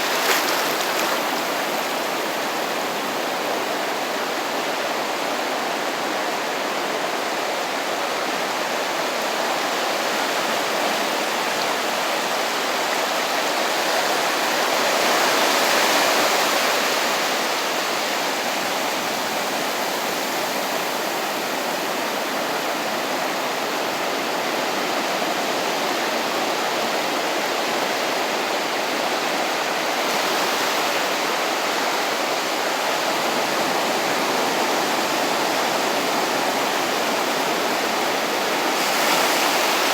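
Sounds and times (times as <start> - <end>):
waves washing onto a beach: 0.0 - 39.9.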